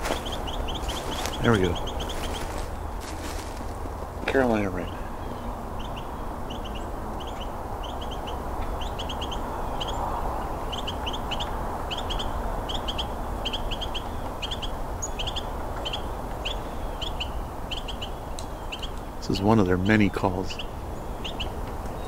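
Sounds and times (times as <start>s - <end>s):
wren calling sharp notes: 0.0s - 3.7s, 4.3s - 22.0s.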